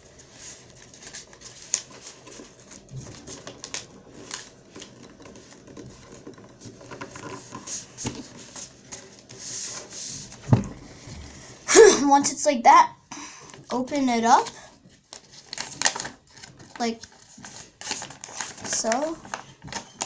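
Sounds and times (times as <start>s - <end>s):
paper folding rustles: 0.0s - 11.5s, 13.5s - 20.0s.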